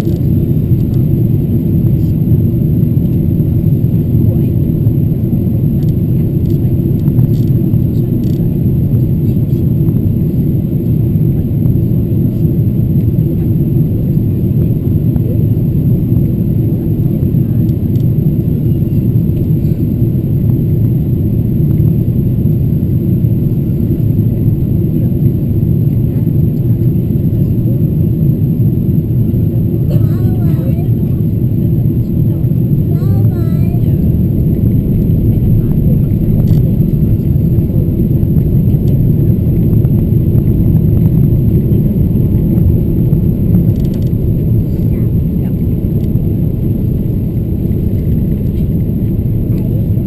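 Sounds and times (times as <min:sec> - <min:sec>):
airplane cabin roar: 0:00.0 - 0:50.0.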